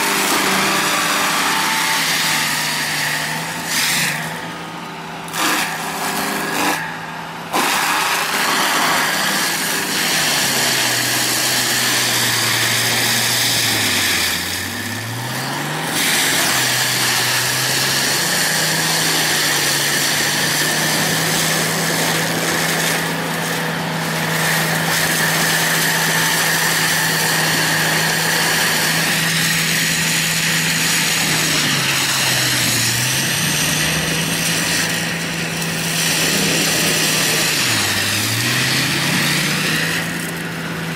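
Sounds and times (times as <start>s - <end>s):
cutter head grinding brush: 0.0s - 40.9s
mulcher engine running hard: 0.0s - 40.9s.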